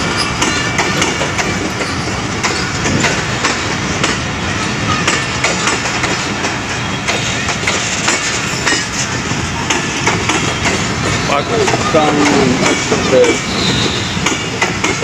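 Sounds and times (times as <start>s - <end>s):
train coaches rumbling past: 0.0s - 15.0s
wheels clattering over rail joints: 0.0s - 15.0s.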